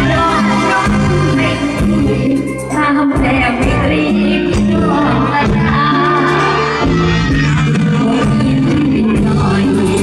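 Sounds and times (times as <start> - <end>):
bass notes: 0.0 - 10.0
live band through loudspeakers: 0.0 - 10.0
woman singing into a microphone: 0.0 - 10.0.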